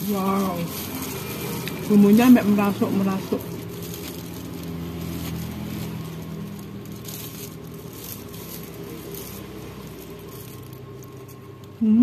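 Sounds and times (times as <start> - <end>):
plastic glove crinkling: 0.0 - 11.9.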